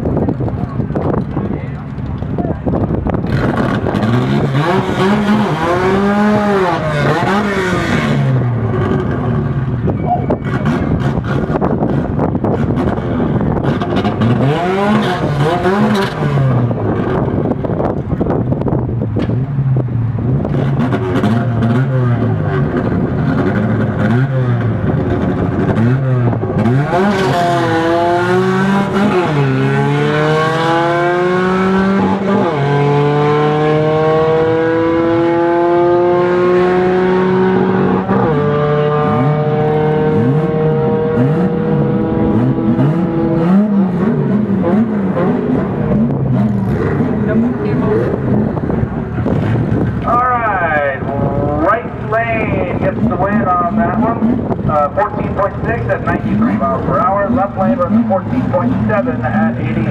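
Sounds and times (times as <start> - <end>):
drag racing car engines revving: 0.0 - 59.9.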